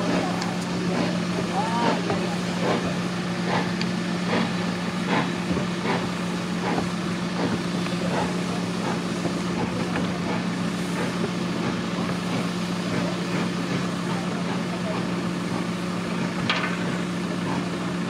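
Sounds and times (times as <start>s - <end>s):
steam locomotive exhaust beats: 0.0s - 18.0s.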